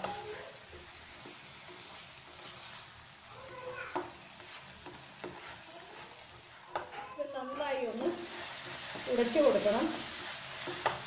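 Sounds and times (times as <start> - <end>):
eggs sizzling in a frying pan: 0.0 - 11.0
spatula scraping a pan: 0.0 - 11.0.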